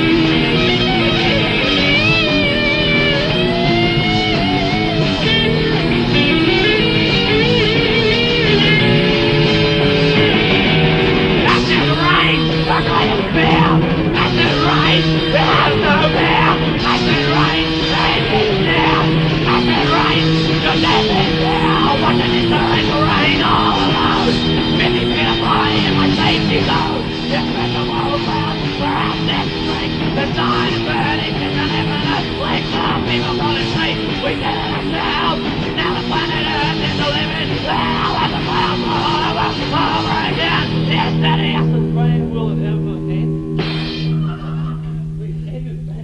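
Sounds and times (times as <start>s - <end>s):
drums: 0.0s - 42.6s, 43.6s - 46.0s
bass guitar: 0.0s - 46.0s
electric guitar: 0.0s - 46.0s.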